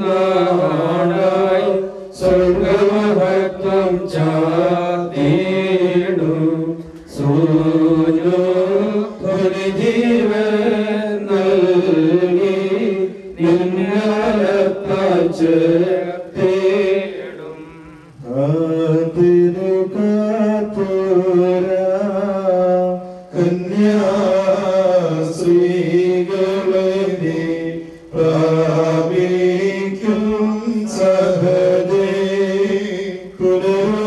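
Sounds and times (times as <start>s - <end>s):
voices singing a slow hymn: 0.0s - 34.0s.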